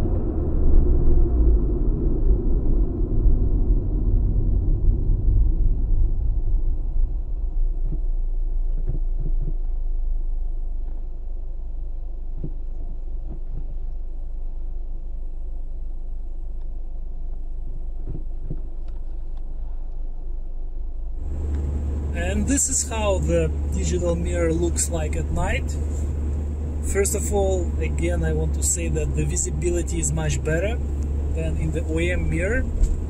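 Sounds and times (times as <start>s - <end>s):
car engine idling hum: 0.0s - 33.0s
in-cabin road noise: 0.0s - 33.0s.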